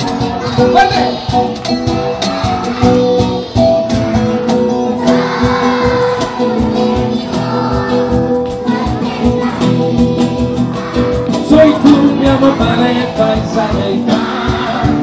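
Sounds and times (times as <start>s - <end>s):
acoustic guitar strumming: 0.0s - 15.0s
girls singing along: 0.0s - 15.0s.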